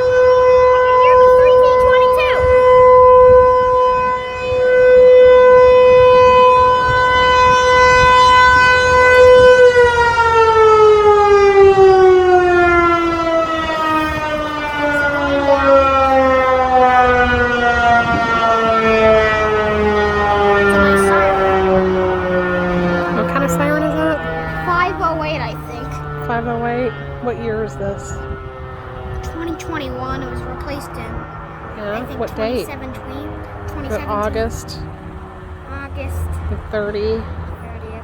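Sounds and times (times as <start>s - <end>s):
outdoor warning siren: 0.0s - 38.0s.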